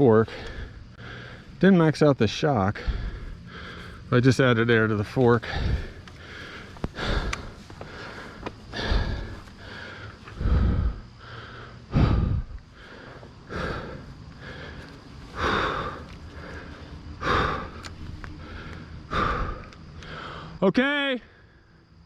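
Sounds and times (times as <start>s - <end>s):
person breathing heavily: 0.0s - 1.6s, 2.5s - 20.6s.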